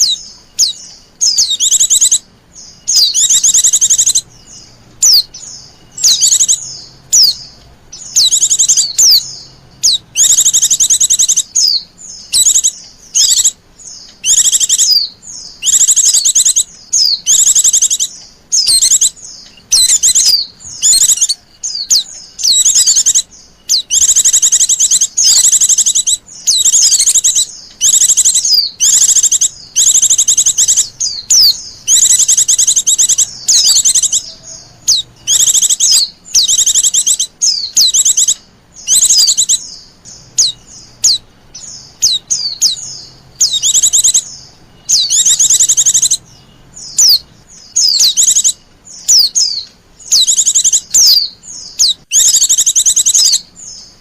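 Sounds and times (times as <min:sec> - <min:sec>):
bird chirping trills: 0:00.0 - 0:54.0.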